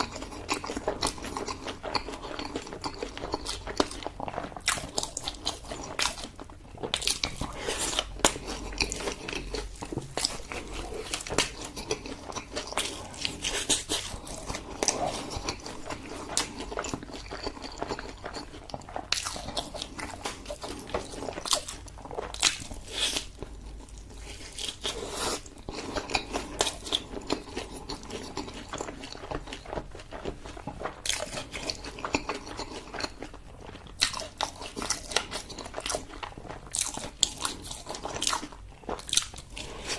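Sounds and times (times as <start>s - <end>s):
person biting and chewing food: 0.0s - 39.9s.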